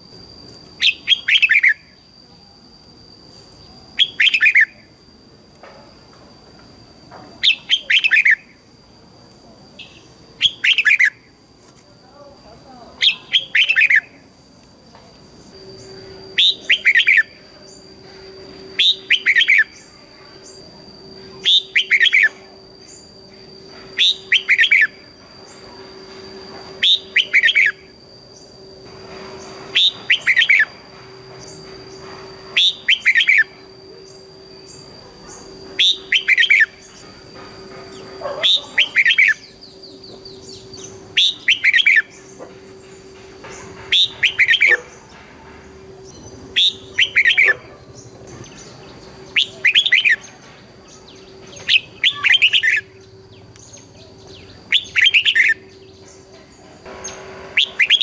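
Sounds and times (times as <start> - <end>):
bulbul whistled song: 0.4 - 2.6, 3.2 - 5.0, 7.4 - 8.7, 9.8 - 11.4, 13.0 - 14.3, 15.5 - 45.1, 45.9 - 56.3, 57.0 - 58.0.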